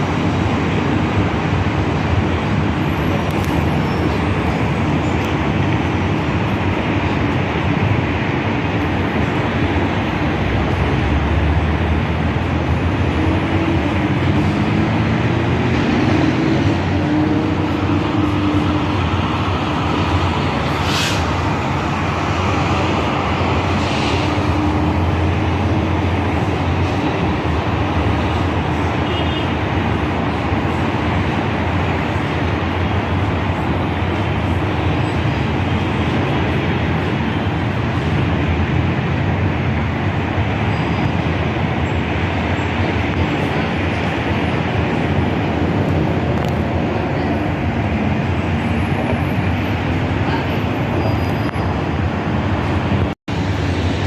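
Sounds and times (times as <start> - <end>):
distant engines rumbling: 0.0 - 54.0
wind noise: 0.0 - 54.0.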